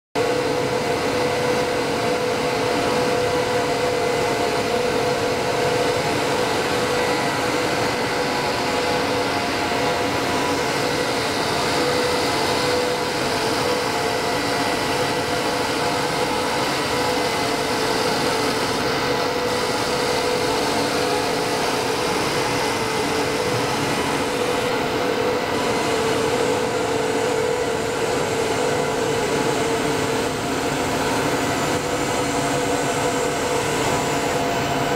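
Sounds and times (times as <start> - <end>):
machine hum with held tones: 0.2 - 34.9.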